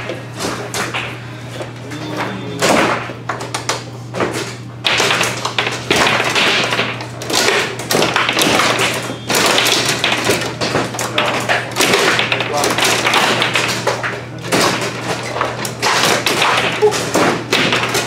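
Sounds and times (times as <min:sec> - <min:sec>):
foosball ball clacking: 0:00.0 - 0:01.7, 0:02.3 - 0:18.0.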